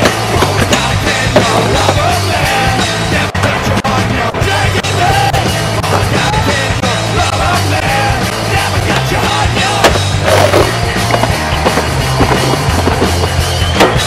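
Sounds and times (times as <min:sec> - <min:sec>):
punk rock song with shouted vocals: 0:00.0 - 0:14.0.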